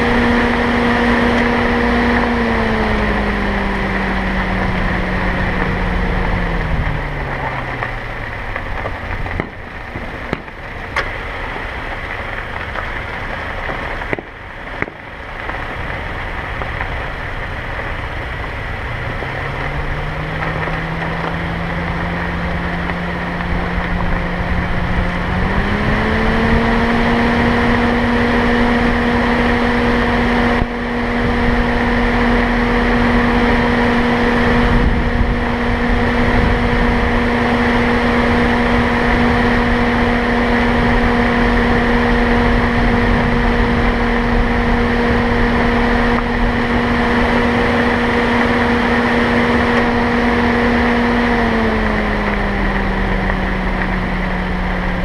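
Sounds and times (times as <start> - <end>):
car engine: 0.0 - 55.0
road noise hiss: 0.0 - 55.0.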